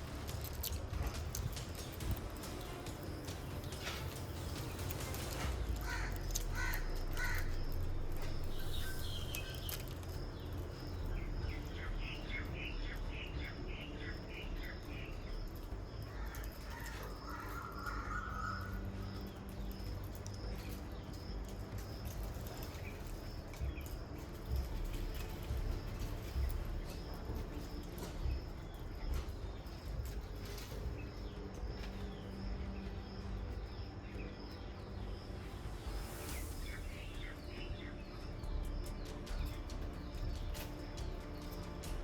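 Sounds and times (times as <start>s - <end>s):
birds calling: 0.0s - 42.0s
steady low rumble: 0.0s - 42.0s.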